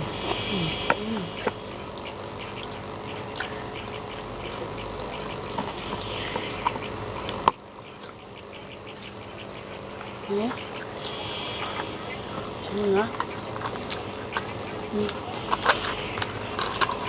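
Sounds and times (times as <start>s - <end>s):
insects chirping: 0.0s - 17.0s
chewing crunchy food: 0.1s - 9.4s, 10.0s - 17.0s.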